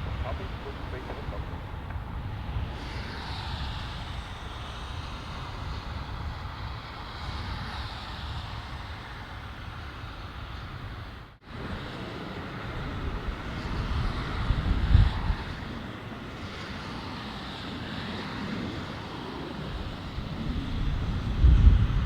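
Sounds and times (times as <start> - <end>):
jet engines rushing with whine: 0.0 - 22.0.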